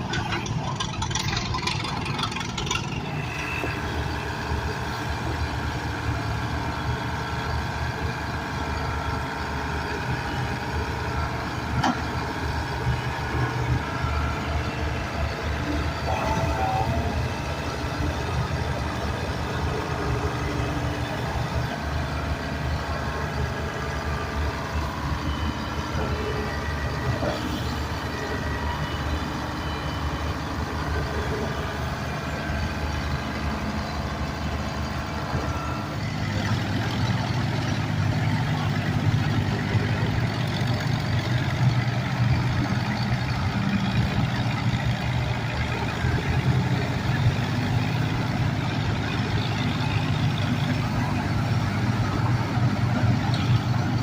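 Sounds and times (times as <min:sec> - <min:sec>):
heavy machinery engine running: 0:00.0 - 0:54.0.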